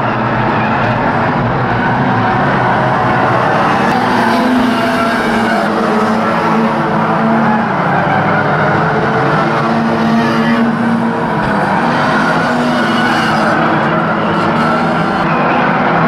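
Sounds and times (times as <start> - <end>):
racing car engines droning: 0.0 - 16.0.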